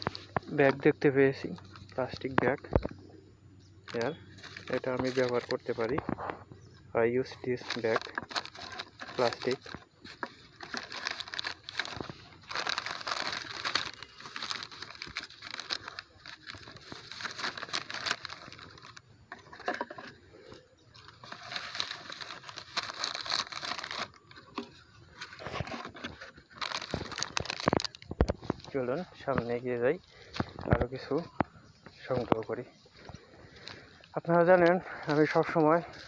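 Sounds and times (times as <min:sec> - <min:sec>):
plastic bag crinkling: 0:00.0 - 0:02.9, 0:03.9 - 0:06.5, 0:07.2 - 0:36.0.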